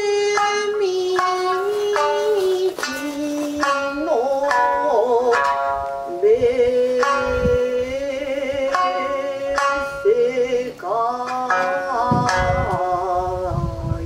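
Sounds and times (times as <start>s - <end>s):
plucked shamisen notes: 0.0s - 14.0s
wavering sung vocal: 0.0s - 14.0s.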